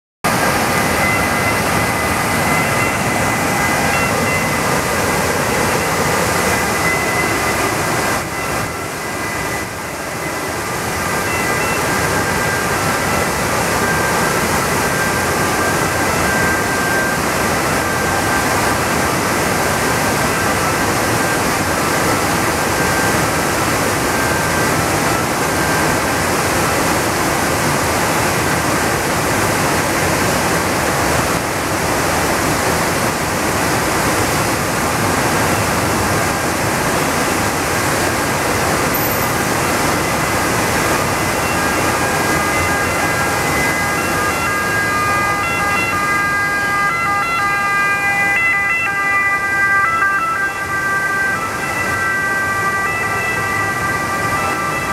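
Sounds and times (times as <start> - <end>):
water rushing over a weir: 0.2 - 54.9.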